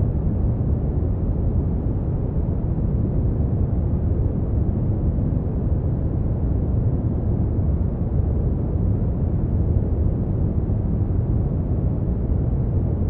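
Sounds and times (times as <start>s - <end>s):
deep rumbling brown noise: 0.0s - 13.0s.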